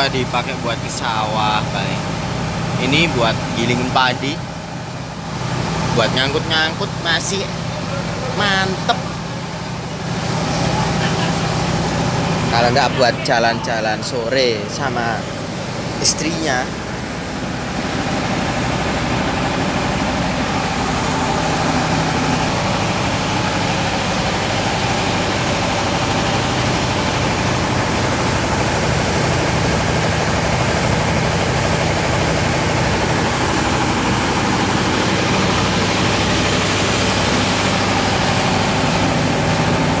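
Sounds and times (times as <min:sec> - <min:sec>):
engine idling: 0:00.0 - 0:40.0.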